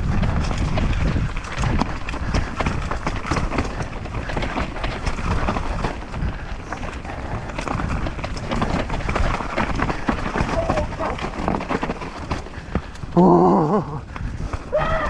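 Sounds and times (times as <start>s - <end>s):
bike tyres clattering over rocks: 0.0s - 15.0s.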